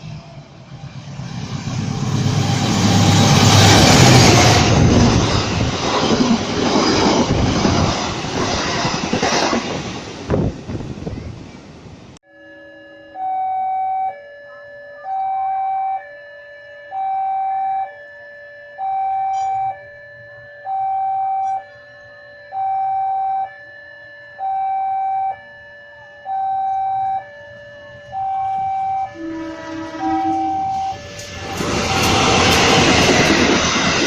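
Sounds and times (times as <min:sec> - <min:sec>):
two-tone crossing alarm: 0:00.4 - 0:09.8, 0:12.2 - 0:34.0.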